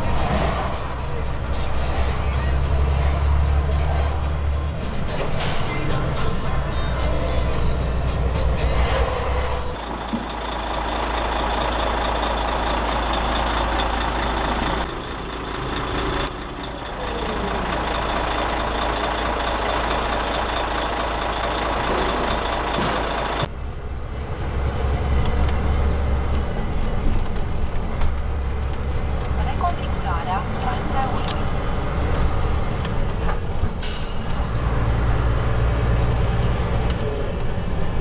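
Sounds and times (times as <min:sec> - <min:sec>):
heavy truck engines idling: 0:00.0 - 0:38.0
low drone inside truck cab: 0:00.0 - 0:38.0.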